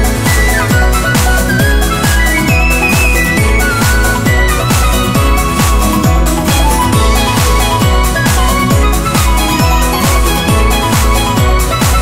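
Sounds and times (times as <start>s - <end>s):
electronic dance music: 0.0s - 12.0s
kick drum: 0.0s - 12.0s.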